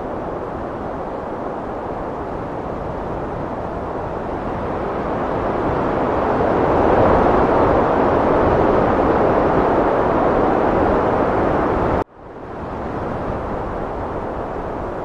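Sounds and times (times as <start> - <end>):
heavy wind blowing: 0.0 - 15.0.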